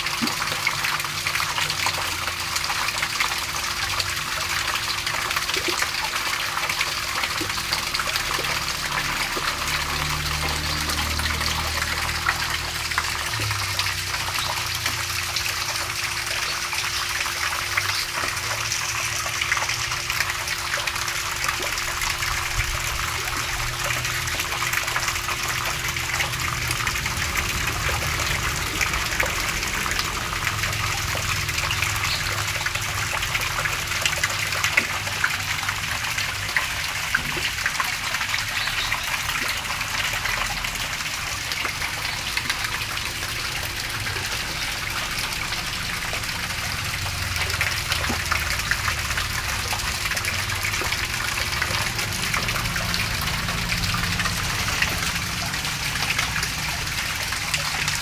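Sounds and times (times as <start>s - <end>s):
water gushing and splashing: 0.0s - 58.0s.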